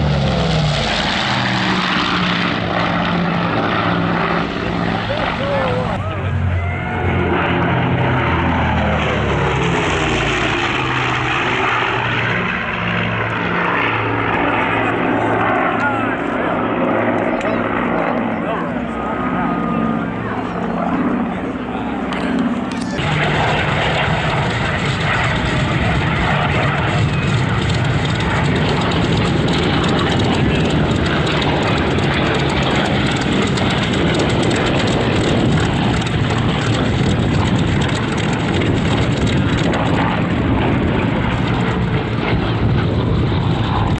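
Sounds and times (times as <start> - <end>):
aircraft radial engines droning: 0.0 - 44.0.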